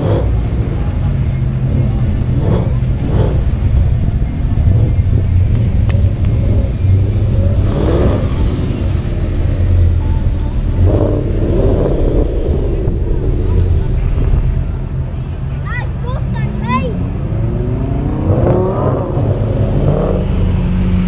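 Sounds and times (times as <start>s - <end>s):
sports car engines running slowly: 0.0s - 21.0s.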